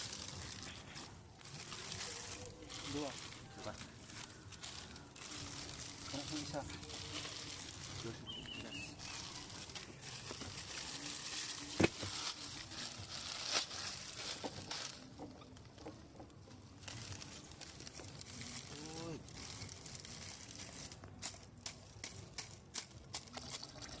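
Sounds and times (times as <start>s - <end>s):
plastic bag crinkling in water: 0.0s - 15.8s, 16.6s - 24.0s.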